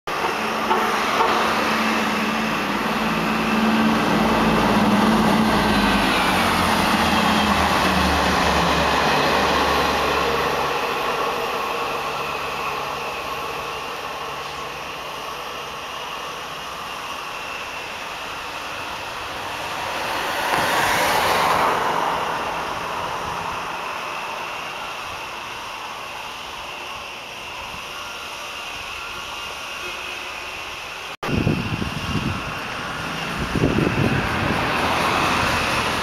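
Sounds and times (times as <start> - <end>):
rail noise: 0.1 - 36.0
train engines humming: 0.1 - 36.0.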